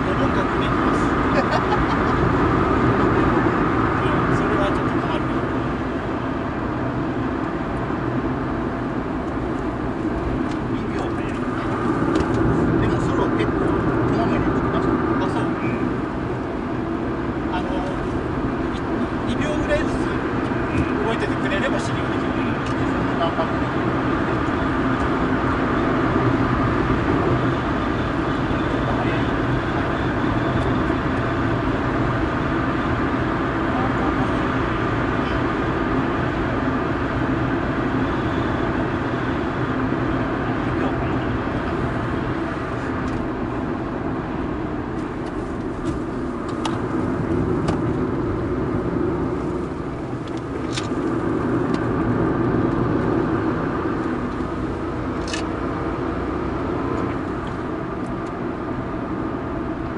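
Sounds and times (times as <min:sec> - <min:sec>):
car engine running under load: 0:00.0 - 0:59.9
tyre and road noise: 0:00.0 - 0:59.9.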